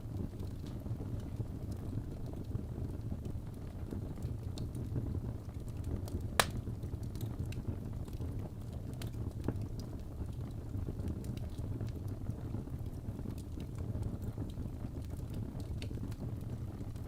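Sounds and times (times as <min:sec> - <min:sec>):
low rumble of flames: 0:00.0 - 0:17.0
logs crackling and popping: 0:00.1 - 0:17.0.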